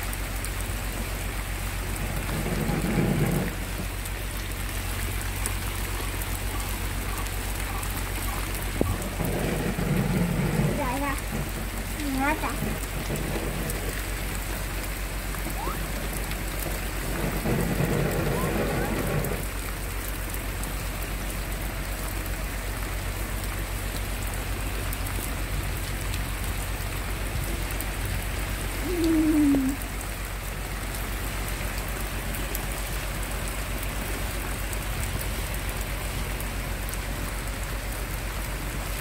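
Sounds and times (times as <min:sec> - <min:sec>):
heavy rain on leaves: 0:00.0 - 0:39.0.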